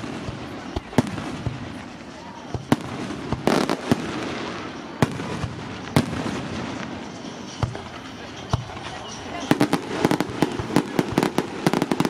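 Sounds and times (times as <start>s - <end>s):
continuous noisy background: 0.0s - 12.0s
firework shells bursting: 0.0s - 12.0s.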